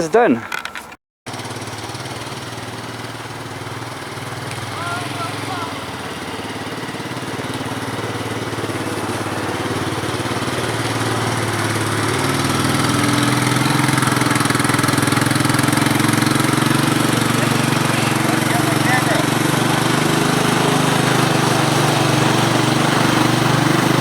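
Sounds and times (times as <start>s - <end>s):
four-stroke engine under load: 0.0s - 24.0s.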